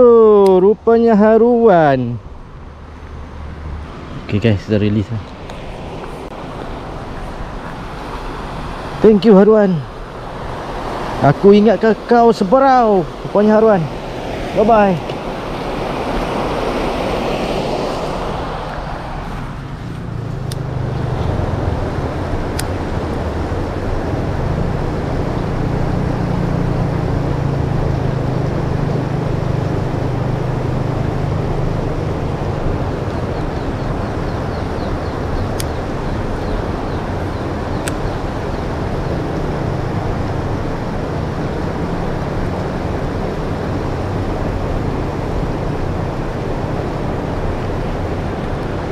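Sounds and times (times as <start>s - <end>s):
water rushing over a weir: 5.4s - 48.9s.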